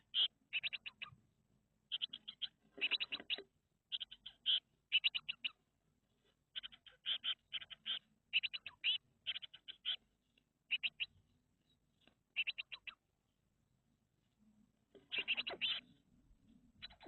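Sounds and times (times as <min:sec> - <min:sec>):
birds chirping: 0:00.0 - 0:01.2, 0:01.9 - 0:13.5, 0:14.2 - 0:17.0.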